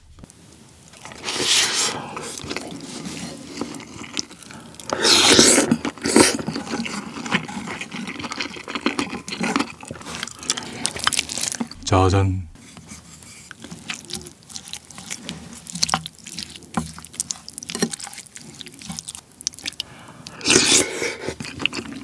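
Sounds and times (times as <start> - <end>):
wet chewing: 0.9 - 11.8, 12.6 - 22.0
slurping broth from a spoon: 1.0 - 11.8, 12.7 - 22.0.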